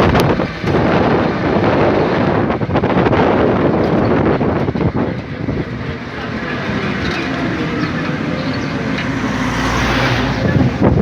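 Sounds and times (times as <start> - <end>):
moving vehicle road noise: 0.0 - 11.0
wind buffeting microphone: 0.0 - 11.0.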